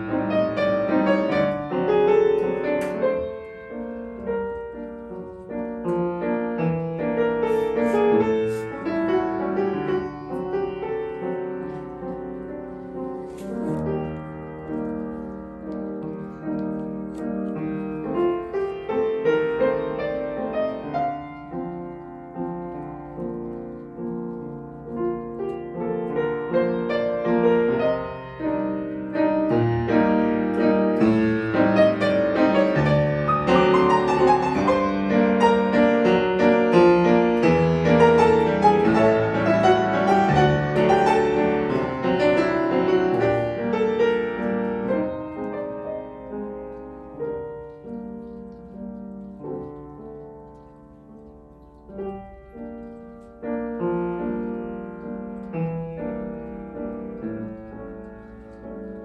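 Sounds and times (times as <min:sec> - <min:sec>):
slow lyrical piano music: 0:00.0 - 0:59.0.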